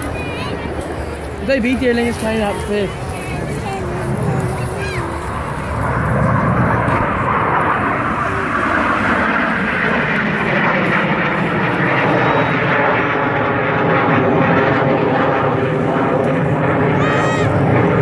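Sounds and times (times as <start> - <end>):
jet engines flying past: 0.0 - 18.0
layered jet whine: 0.0 - 18.0.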